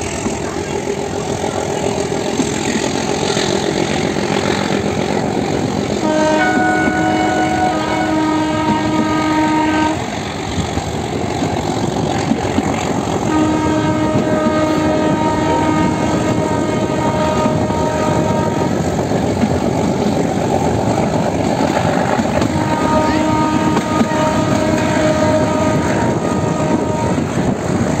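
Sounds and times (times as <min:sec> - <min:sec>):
train coaches rumbling on rails: 0:00.0 - 0:28.0
train horn blasts: 0:00.0 - 0:28.0.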